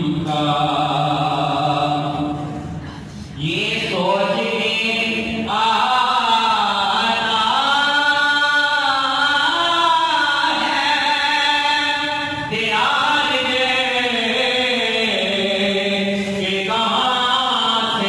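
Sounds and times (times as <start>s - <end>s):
man chanting into a microphone: 0.0s - 2.7s, 3.3s - 18.0s.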